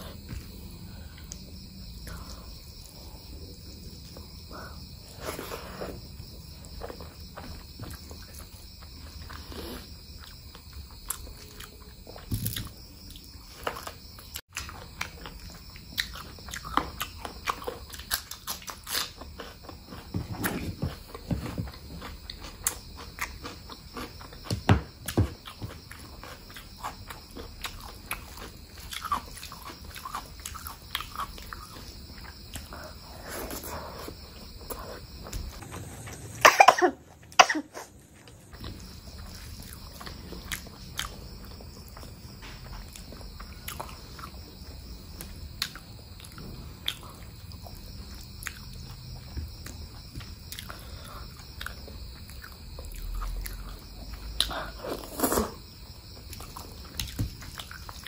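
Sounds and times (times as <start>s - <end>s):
chewing and biting food: 6.0s - 35.8s, 38.2s - 58.0s.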